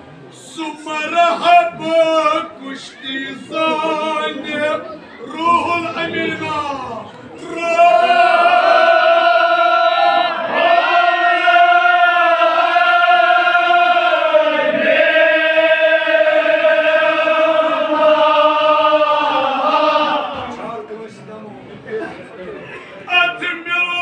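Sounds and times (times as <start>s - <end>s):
men chanting held notes: 0.6s - 20.6s.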